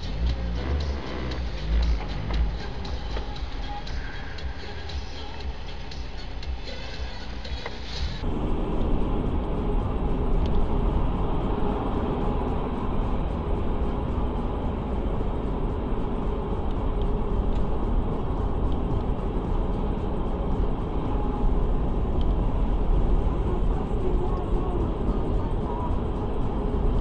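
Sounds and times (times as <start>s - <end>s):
road and engine rumble: 0.0s - 27.0s.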